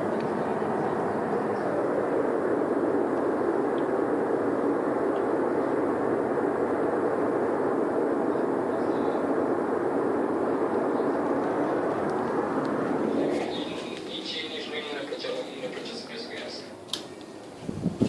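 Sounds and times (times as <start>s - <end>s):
loud droning hum from sky: 0.0s - 18.0s.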